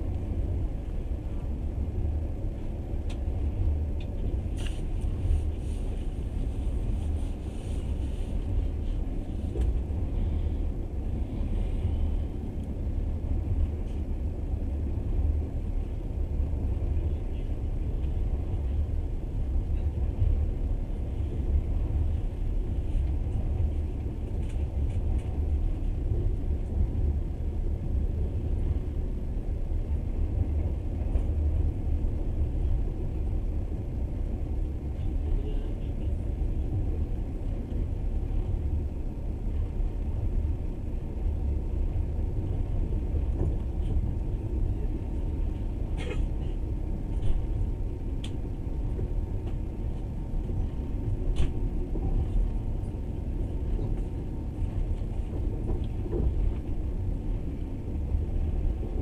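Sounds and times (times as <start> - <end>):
train rumbling along track: 0.0 - 59.0.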